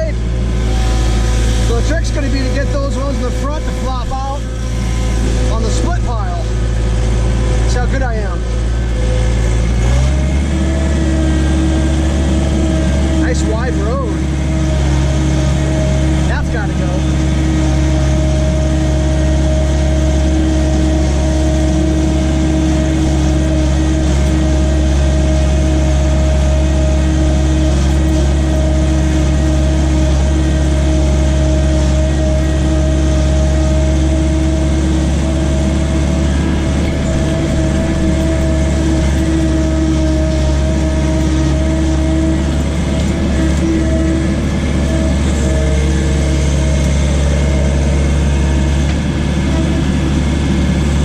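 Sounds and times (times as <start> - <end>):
skid steer engine droning: 0.0 - 51.0.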